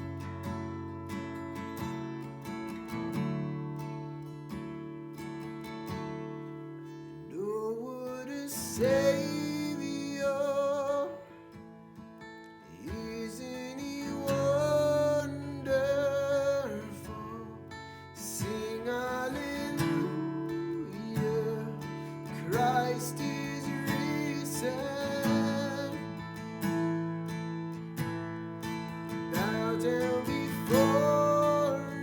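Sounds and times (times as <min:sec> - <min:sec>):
strummed acoustic guitar: 0:00.0 - 0:32.0.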